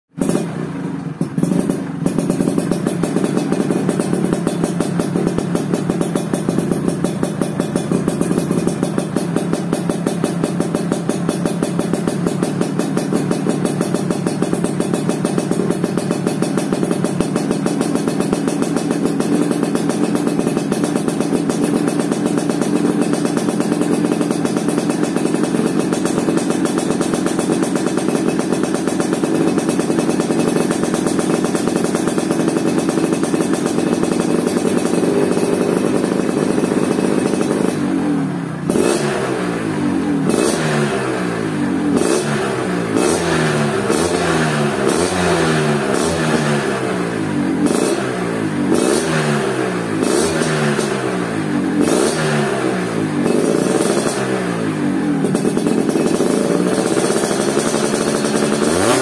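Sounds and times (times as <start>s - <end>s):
two-stroke motorcycle engine: 0.1s - 59.0s.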